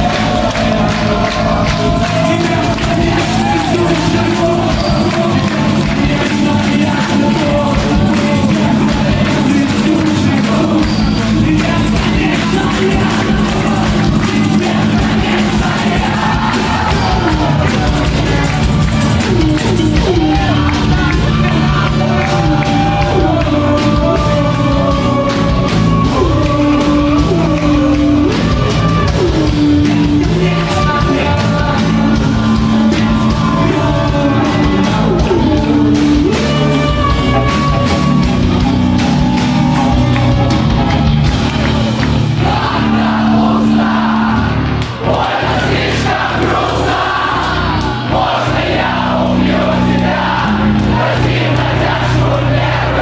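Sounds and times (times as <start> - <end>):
man singing: 0.0 - 43.2
rock band playing live: 0.0 - 53.0
steady drums: 0.0 - 53.0.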